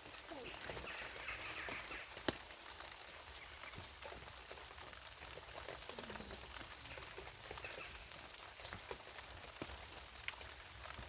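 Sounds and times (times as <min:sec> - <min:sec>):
light rain dripping: 0:00.0 - 0:11.0.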